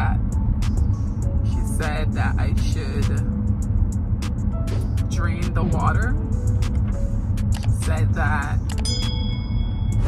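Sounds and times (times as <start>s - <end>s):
car rumbling on road: 0.0s - 10.0s
music with steady beat: 0.1s - 10.0s.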